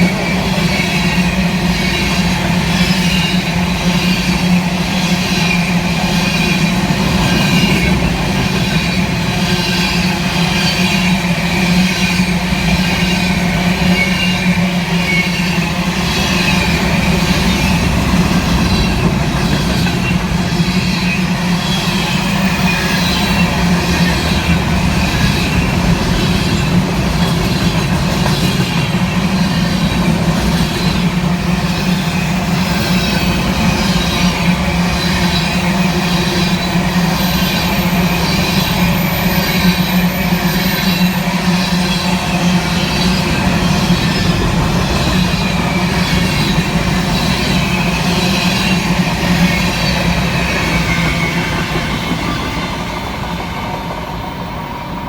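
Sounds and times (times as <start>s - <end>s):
high metallic wheel noise: 0.0s - 54.4s
freight train wheels rumbling: 0.0s - 55.0s.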